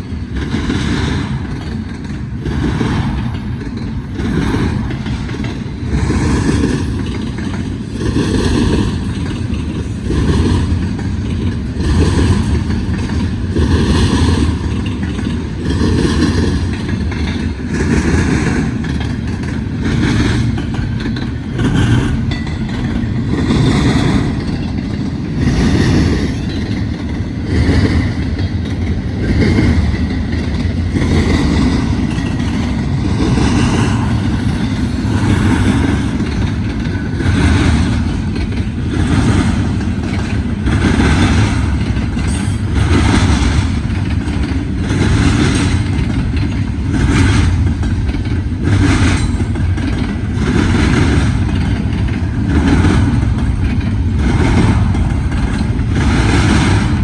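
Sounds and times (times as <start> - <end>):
freight train cars rolling: 0.0 - 57.0
rhythmic wheel clatter: 0.0 - 57.0.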